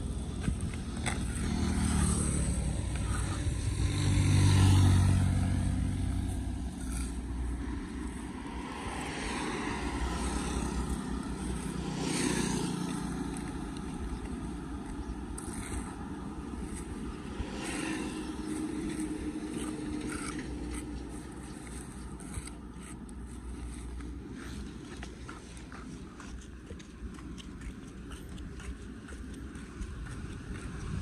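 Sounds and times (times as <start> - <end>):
background traffic noise: 0.0 - 31.0
vehicles passing by: 0.0 - 31.0.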